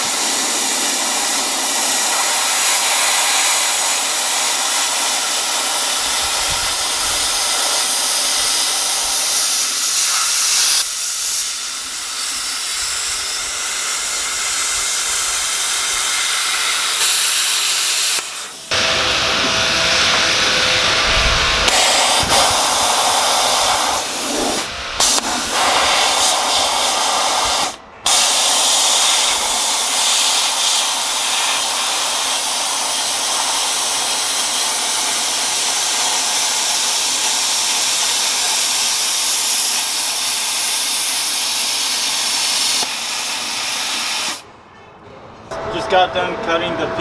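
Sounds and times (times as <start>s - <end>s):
plasma cutter hissing: 0.0s - 44.5s.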